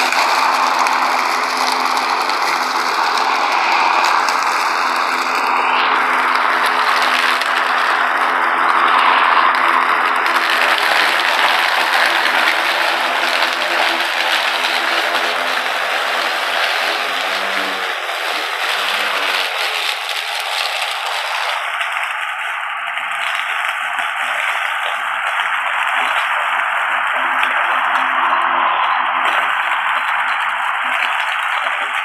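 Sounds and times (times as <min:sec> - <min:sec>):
grass being cut and blown: 0:00.0 - 0:32.0
lawn mower motor hum: 0:00.0 - 0:32.0.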